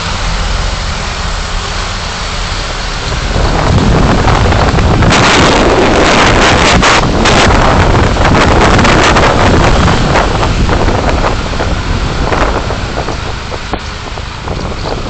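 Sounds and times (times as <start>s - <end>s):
road noise: 0.0s - 15.0s
rushing wind: 0.0s - 15.0s.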